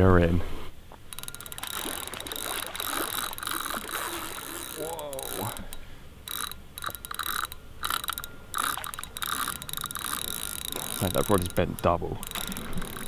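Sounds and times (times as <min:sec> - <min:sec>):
fishing reel drag clicking: 0:01.1 - 0:13.0.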